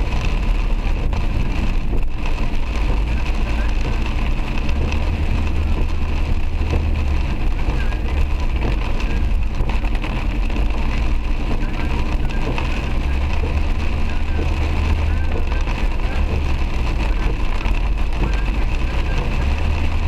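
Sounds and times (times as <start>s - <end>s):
engine and tyres rumbling: 0.0s - 20.0s
rain hitting car: 0.0s - 20.0s.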